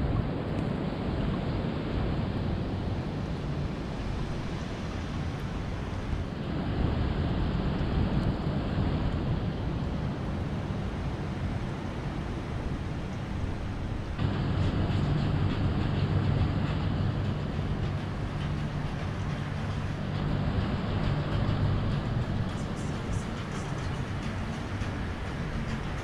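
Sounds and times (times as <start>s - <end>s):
low rumble of background noise: 0.0s - 26.0s.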